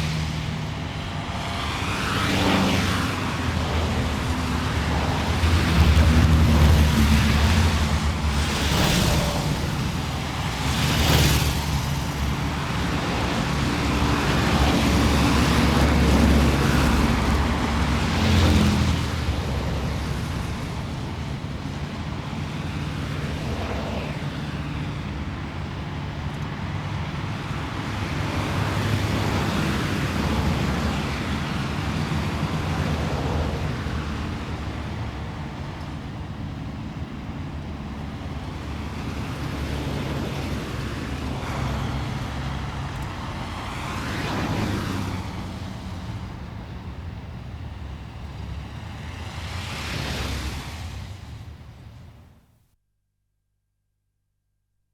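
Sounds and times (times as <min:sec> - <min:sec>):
vehicles passing close: 0:00.0 - 0:52.4
engines and tyres of traffic: 0:00.0 - 0:52.6.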